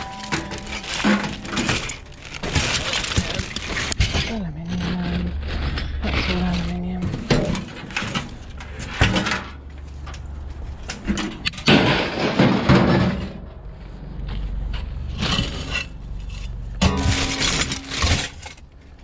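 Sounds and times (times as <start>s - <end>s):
scrap crashing and clattering: 0.0s - 13.6s, 15.0s - 19.0s.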